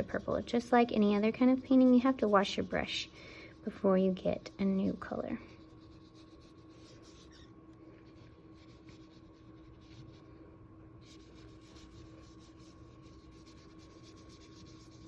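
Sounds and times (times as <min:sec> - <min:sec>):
water brush scratching on paper: 0:00.0 - 0:10.2, 0:11.0 - 0:15.0
low electrical hum: 0:00.0 - 0:15.0.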